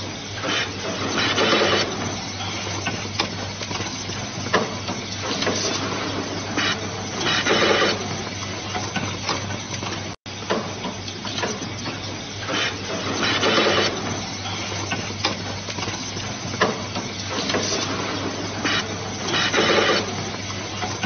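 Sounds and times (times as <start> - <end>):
mechanical noise: 0.0 - 21.0.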